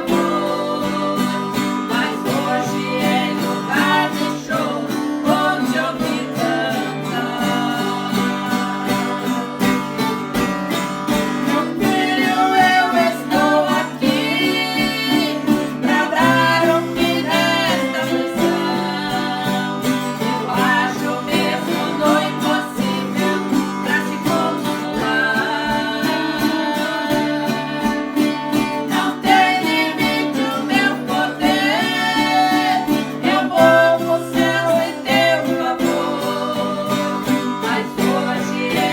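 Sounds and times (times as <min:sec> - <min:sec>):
acoustic guitar strumming: 0:00.0 - 0:38.9
person singing: 0:00.0 - 0:38.9.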